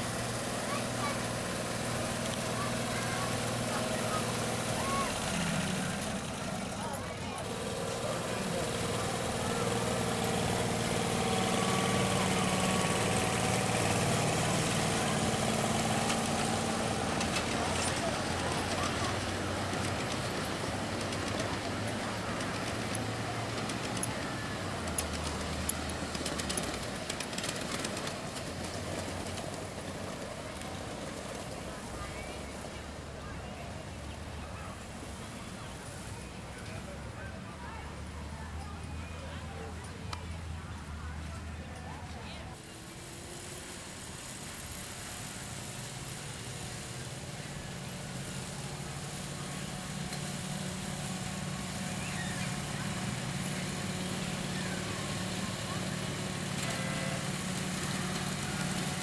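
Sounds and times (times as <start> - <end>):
miniature train rumbling: 0.0 - 59.0.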